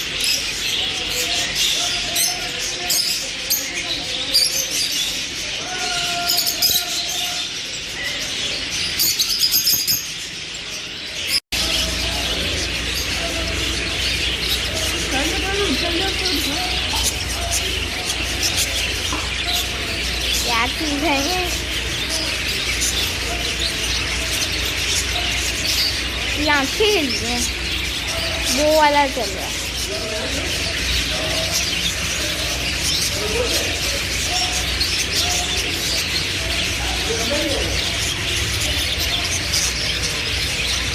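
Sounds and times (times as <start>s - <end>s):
caged birds chirping: 0.0s - 40.9s.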